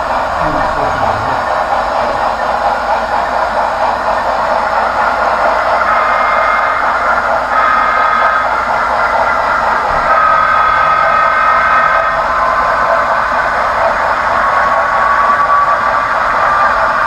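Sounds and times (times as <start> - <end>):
model train wheels rumbling: 0.0 - 17.0.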